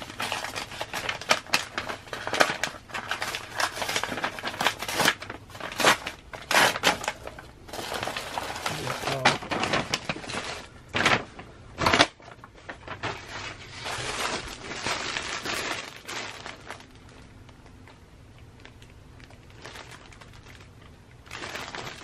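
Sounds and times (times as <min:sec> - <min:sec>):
paper envelope rustling: 0:00.0 - 0:17.6
sharp paper crackles: 0:00.0 - 0:22.0.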